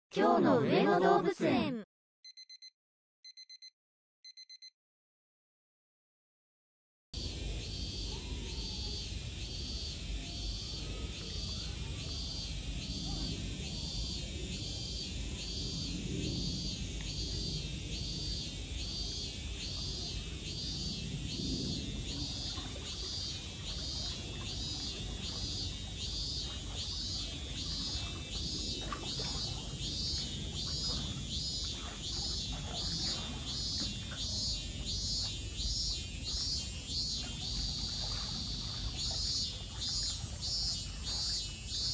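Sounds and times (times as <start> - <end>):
cicada singing: 7.2 - 41.9.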